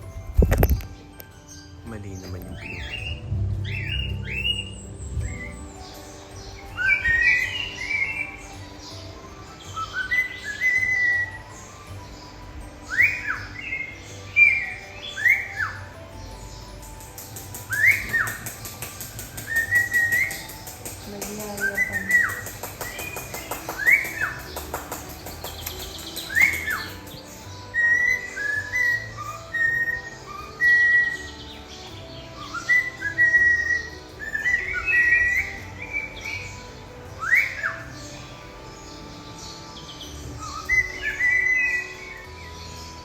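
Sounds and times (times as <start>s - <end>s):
cockatiels whistling and chirping: 2.5s - 20.9s, 21.6s - 38.4s, 40.3s - 42.8s.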